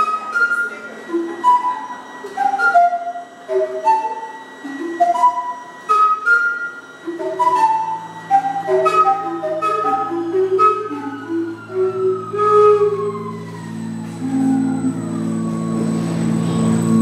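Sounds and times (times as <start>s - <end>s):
flute-like pipe melody: 0.0s - 17.0s
low steady drone: 0.0s - 17.0s.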